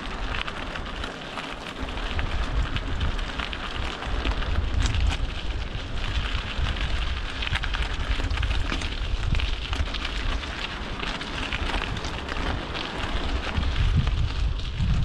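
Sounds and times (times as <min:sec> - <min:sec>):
bike tyres crunching over gravel: 0:00.0 - 0:15.0
wind rumbling on microphone: 0:00.0 - 0:15.0.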